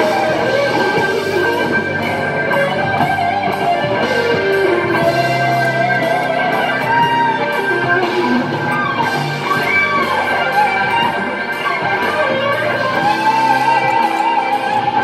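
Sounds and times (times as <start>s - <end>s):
electric guitar lead with bent notes: 0.0s - 15.0s.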